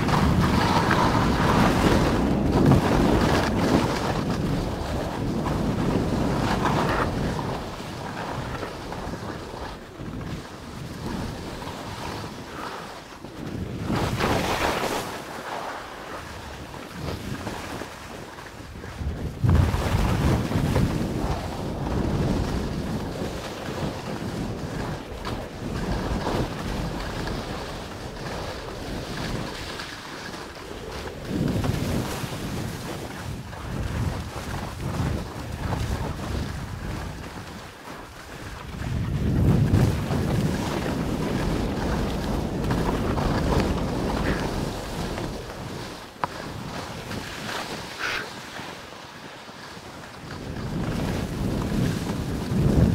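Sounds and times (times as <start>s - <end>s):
skis scraping snow: 0.0s - 52.9s
wind buffeting microphone: 0.0s - 52.9s.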